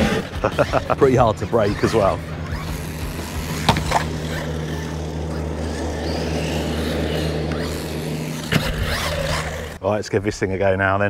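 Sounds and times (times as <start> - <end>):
electric motor whining: 0.0 - 9.8
steady low hum: 0.0 - 9.8.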